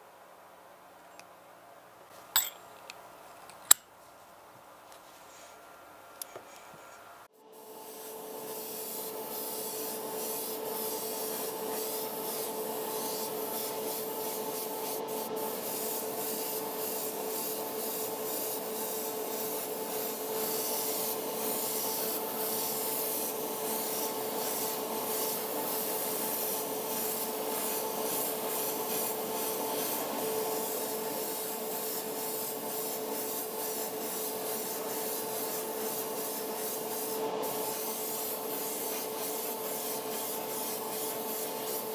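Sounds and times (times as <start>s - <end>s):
airbrush hissing: 7.5s - 41.9s.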